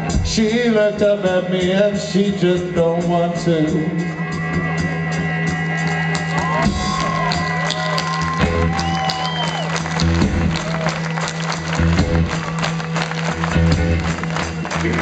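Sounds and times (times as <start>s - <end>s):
drums: 0.0s - 15.0s.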